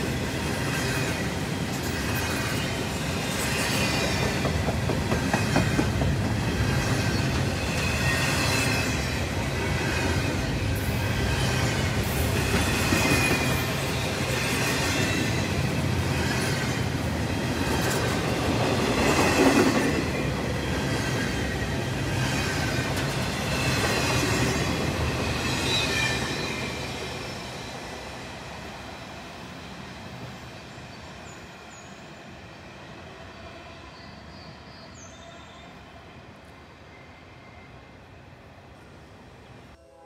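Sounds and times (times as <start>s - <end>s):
train wheel squeal: 0.0s - 28.2s, 29.6s - 36.2s, 36.8s - 38.0s
rumble of train wheels: 0.0s - 32.6s.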